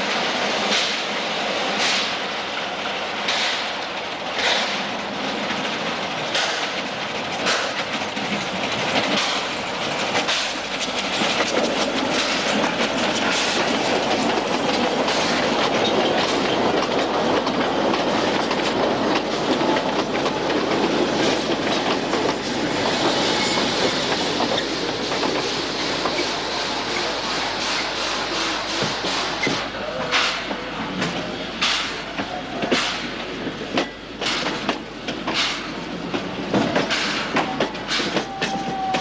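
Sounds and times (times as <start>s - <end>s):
steam locomotive exhaust chuffing: 0.1s - 39.0s
train wheels clattering over rail joints: 0.6s - 1.1s, 1.7s - 2.2s, 3.2s - 39.0s.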